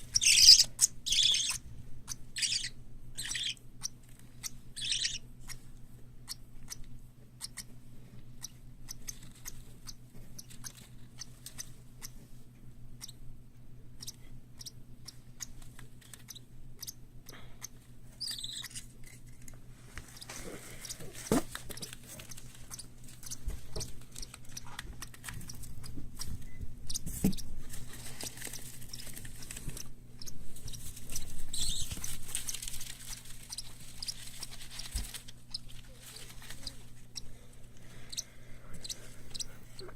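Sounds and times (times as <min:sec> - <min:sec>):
chicks pecking and nibbling: 0:00.0 - 0:39.9.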